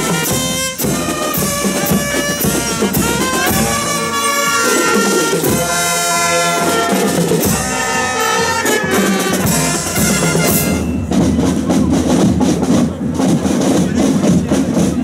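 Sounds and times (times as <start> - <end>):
brass band playing: 0.0 - 14.9
bass and snare drums beating: 0.0 - 15.0.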